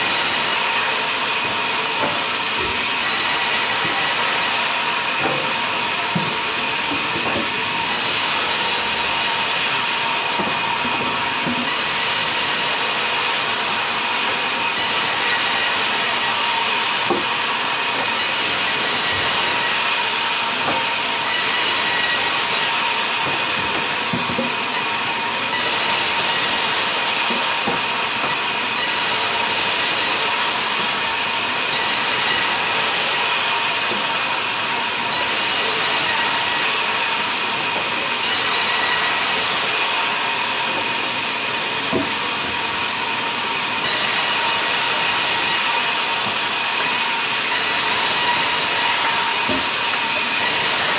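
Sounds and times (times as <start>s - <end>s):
band saw cutting log: 0.0s - 50.9s.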